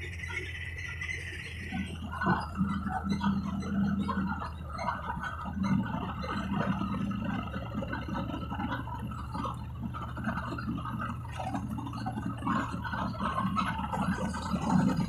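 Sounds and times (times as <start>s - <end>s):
bus engine humming: 0.0s - 15.0s
road and traffic hiss: 0.0s - 15.0s.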